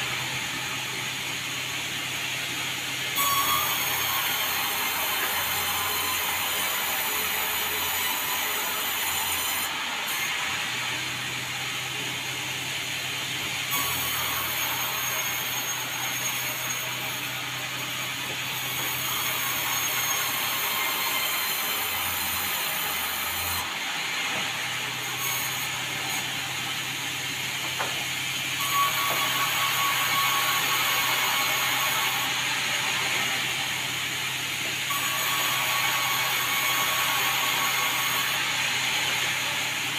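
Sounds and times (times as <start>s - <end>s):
sawmill machinery sawing: 0.0s - 39.9s.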